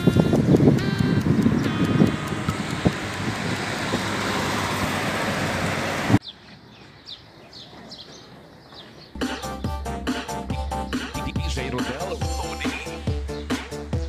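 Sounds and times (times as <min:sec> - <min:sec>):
quiet street sound: 0:00.0 - 0:14.0
road traffic noise: 0:00.0 - 0:14.0.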